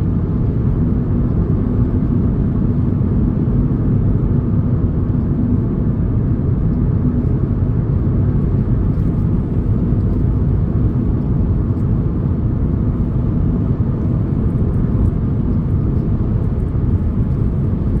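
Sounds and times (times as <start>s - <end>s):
vehicle engine and tyre rumble: 0.0s - 18.0s.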